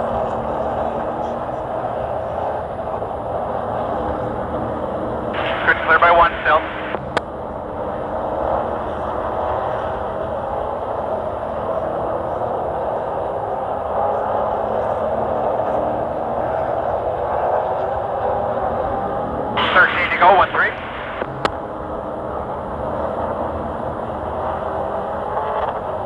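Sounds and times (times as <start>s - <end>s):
race truck engine droning: 0.0s - 26.0s.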